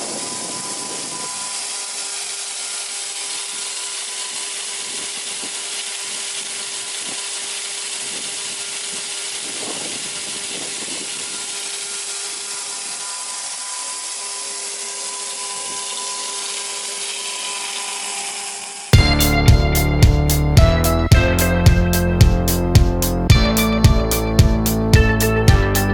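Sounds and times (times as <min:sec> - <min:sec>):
chainsaw sawing through wood: 0:00.0 - 0:25.0
steady hum: 0:00.0 - 0:25.8.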